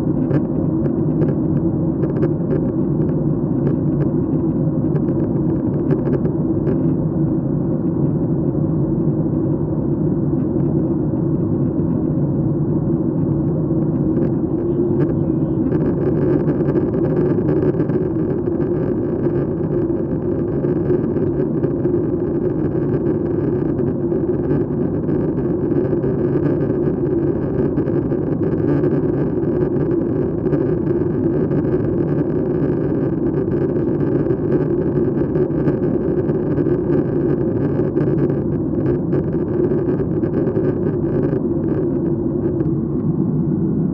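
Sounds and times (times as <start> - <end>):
airliner cabin rumble: 0.0 - 43.9.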